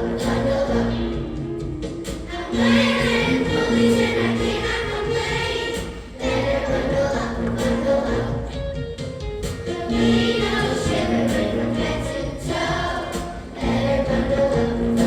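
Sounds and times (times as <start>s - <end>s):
choir singing sustained notes: 0.0s - 8.6s, 9.8s - 15.0s.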